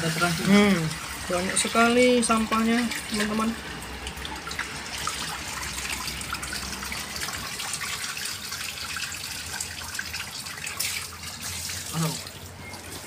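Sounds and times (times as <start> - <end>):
hose water splashing on tiles: 0.0 - 13.0.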